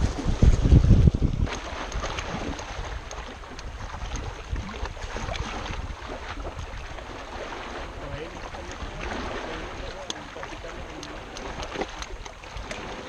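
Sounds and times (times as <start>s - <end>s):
small waves lapping on rocks: 0.0s - 13.0s
wind blowing across microphone: 0.0s - 13.0s.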